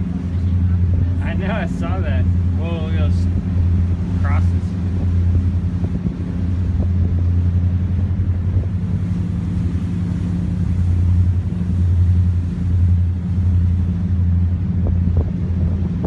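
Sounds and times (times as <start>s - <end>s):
boat engines droning: 0.0s - 16.0s.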